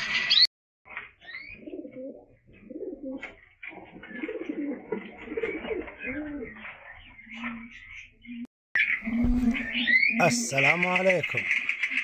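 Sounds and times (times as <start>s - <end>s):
pigeons cooing: 1.2s - 12.0s.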